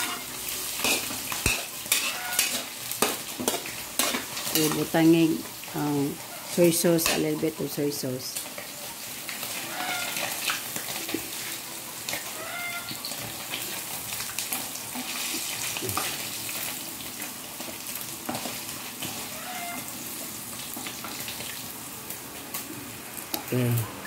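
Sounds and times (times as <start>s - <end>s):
chicken sizzling in oil: 0.0s - 23.8s.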